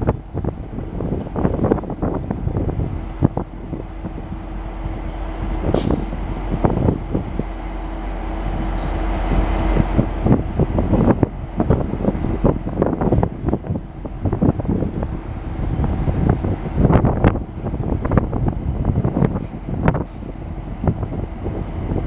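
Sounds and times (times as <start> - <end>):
diesel locomotive engine rumbling: 0.0 - 22.0
wind buffeting microphone: 0.0 - 22.0.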